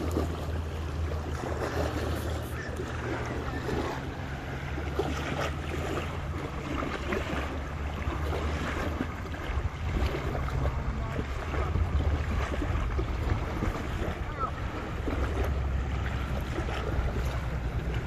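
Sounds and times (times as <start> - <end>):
waves lapping on shore: 0.0 - 18.0
wind rumble on microphone: 1.1 - 18.0.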